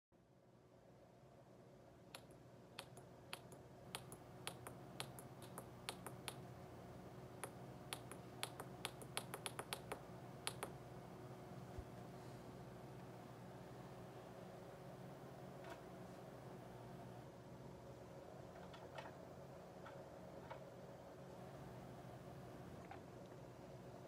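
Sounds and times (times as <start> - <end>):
faint steady hum: 0.2 - 24.0.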